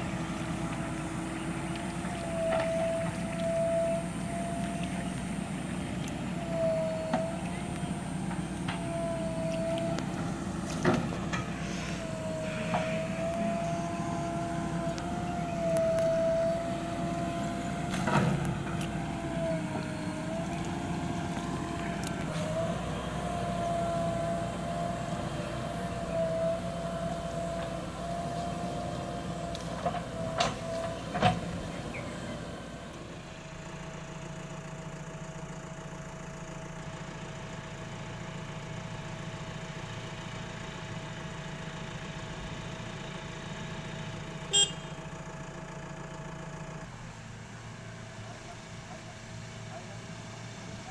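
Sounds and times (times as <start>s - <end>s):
diesel engine whining: 0.0s - 50.9s.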